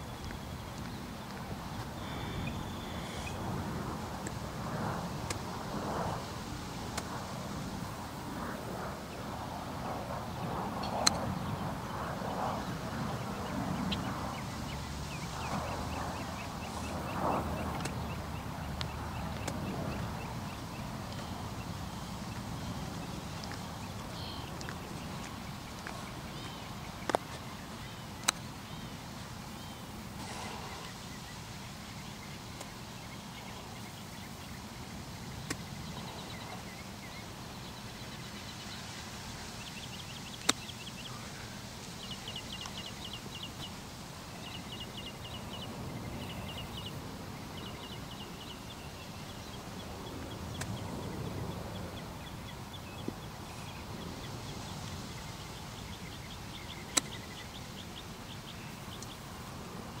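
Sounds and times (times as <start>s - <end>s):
outdoor background noise: 0.0s - 60.0s.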